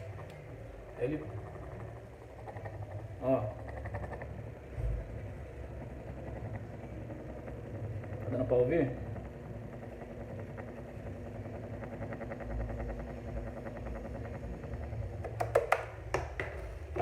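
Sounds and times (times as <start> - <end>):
electric fan motor humming: 0.0 - 17.0.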